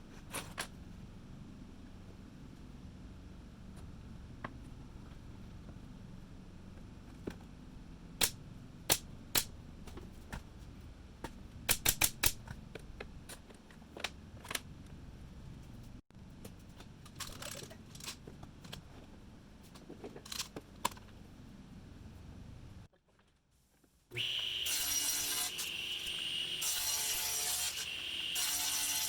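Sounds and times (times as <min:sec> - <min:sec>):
low shop background: 0:00.0 - 0:29.0.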